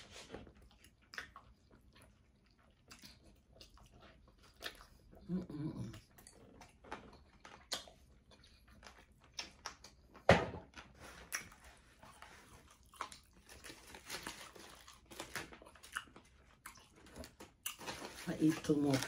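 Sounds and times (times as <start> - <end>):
chewing and mouth clicks: 0.4 - 17.9.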